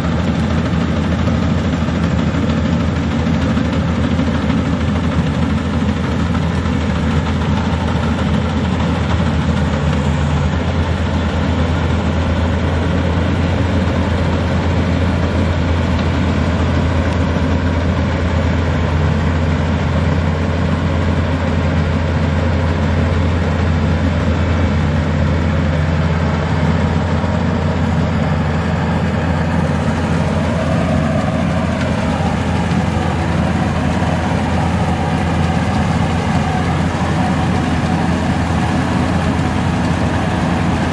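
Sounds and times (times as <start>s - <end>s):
combine harvester engine humming: 0.0s - 40.9s.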